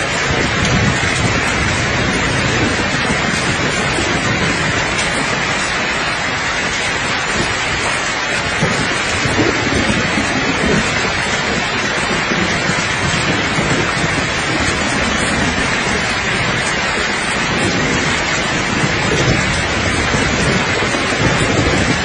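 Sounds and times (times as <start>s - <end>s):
distant thunder rumble: 0.0s - 22.0s
steady rain falling: 0.0s - 22.0s.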